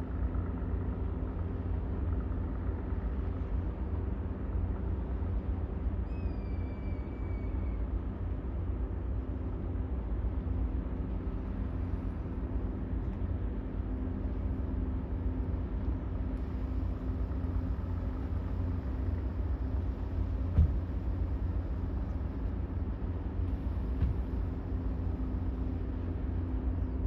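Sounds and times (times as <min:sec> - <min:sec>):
ship engine low rumble: 0:00.0 - 0:27.0.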